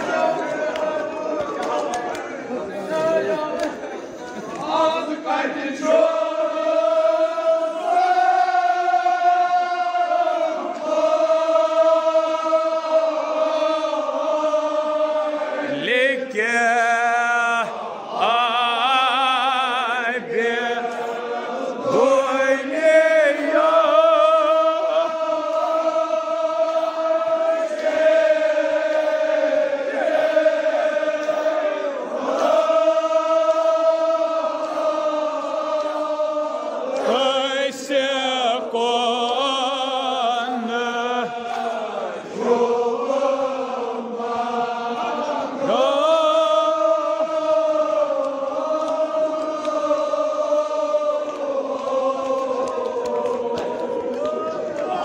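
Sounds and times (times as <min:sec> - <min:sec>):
men chanting held notes: 0:00.0 - 0:55.0.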